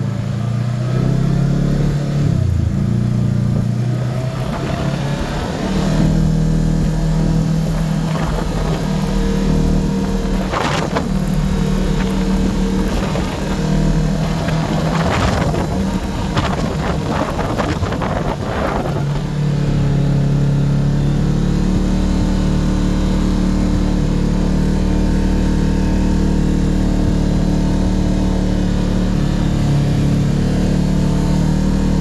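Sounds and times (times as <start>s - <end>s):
engine running while driving: 0.0s - 32.0s.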